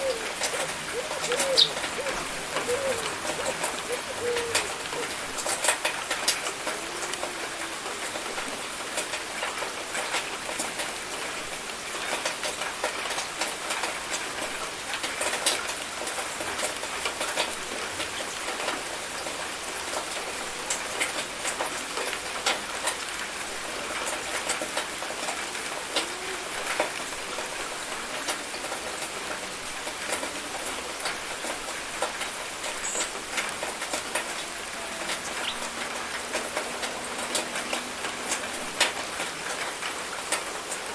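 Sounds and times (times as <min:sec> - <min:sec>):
raindrops spattering on a surface: 0:00.0 - 0:40.9
steady rain hiss: 0:00.0 - 0:40.9.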